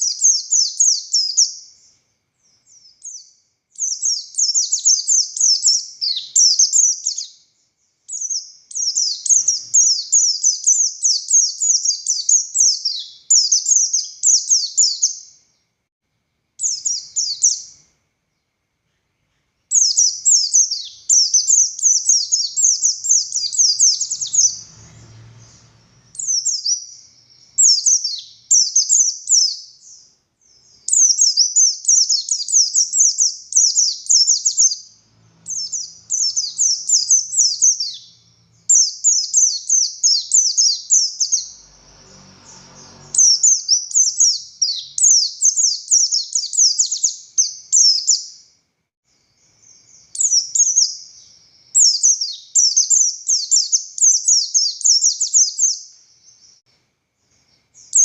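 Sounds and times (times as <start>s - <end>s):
bird singing high sweeping notes: 0.0s - 15.4s, 16.6s - 17.9s, 19.3s - 48.5s, 49.4s - 56.6s.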